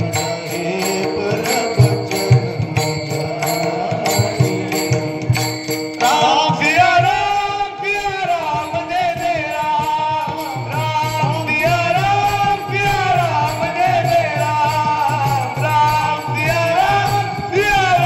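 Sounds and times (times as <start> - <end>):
lead voice and chorus singing: 0.0 - 18.0.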